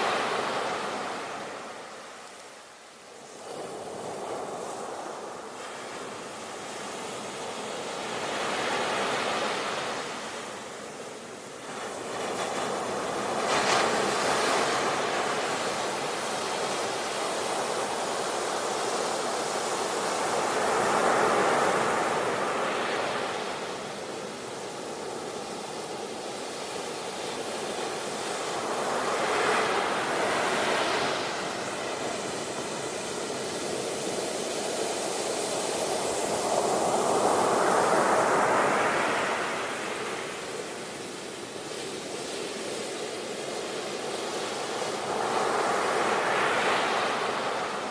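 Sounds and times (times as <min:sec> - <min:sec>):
ocean waves on a beach: 0:00.0 - 0:47.9.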